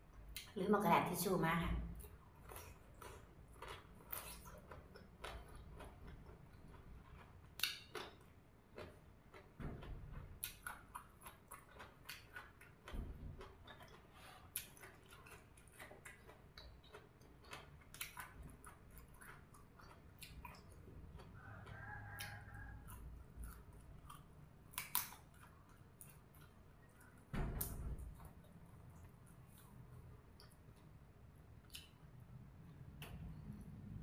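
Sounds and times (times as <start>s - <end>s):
person chewing raw vegetables: 2.0s - 34.0s.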